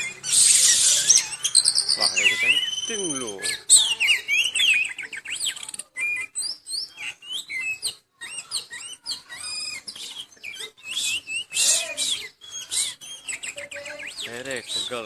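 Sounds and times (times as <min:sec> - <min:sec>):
bird singing whistles and chatter: 0:00.0 - 0:15.0.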